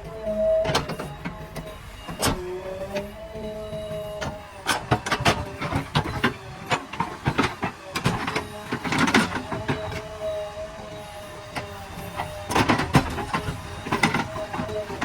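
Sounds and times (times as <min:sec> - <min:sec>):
backhoe loader whining: 0:00.0 - 0:15.0.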